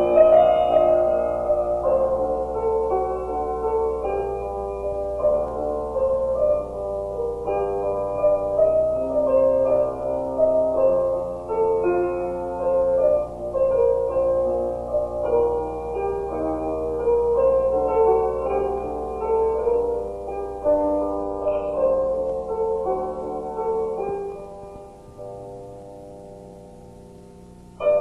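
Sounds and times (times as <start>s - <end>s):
slow piano melody: 0.0s - 28.0s.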